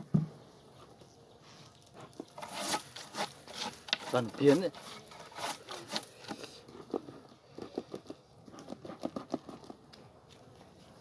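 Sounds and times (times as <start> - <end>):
rustling of hands on beehive: 0.6 - 11.0.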